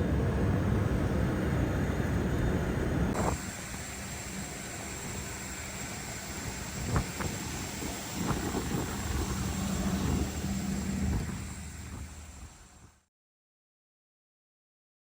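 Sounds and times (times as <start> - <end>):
cockpit air hiss and engine hum: 0.0 - 13.1.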